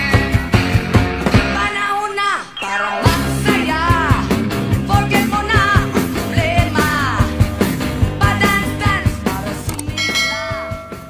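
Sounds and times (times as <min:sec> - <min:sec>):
song with vocals over a beat: 0:01.3 - 0:10.9.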